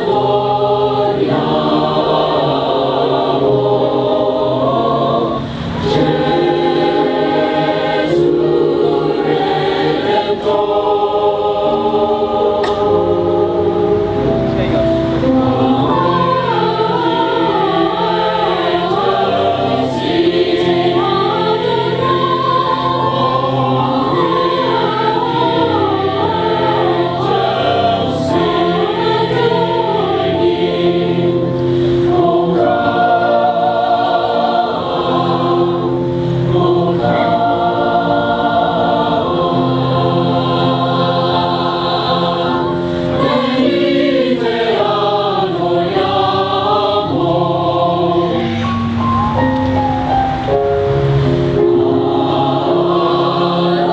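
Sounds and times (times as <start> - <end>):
choir singing: 0.0 - 53.9.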